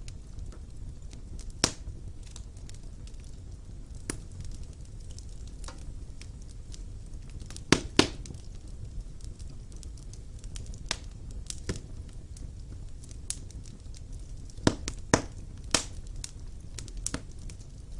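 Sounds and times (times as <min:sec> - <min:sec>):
fire crackling and popping: 0:00.0 - 0:17.9
wood fire rumbling: 0:00.0 - 0:17.9.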